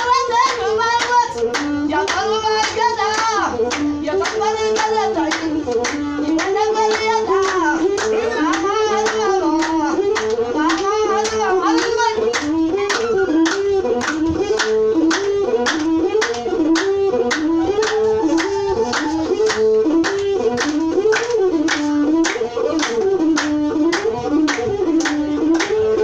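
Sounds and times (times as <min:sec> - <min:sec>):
bowed fiddle melody: 0:00.0 - 0:26.0
steady hand clapping: 0:00.0 - 0:26.0.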